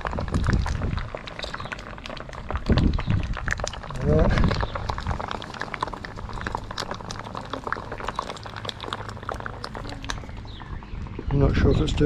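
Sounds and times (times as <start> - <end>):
bubbles fizzing and popping: 0.0 - 12.0.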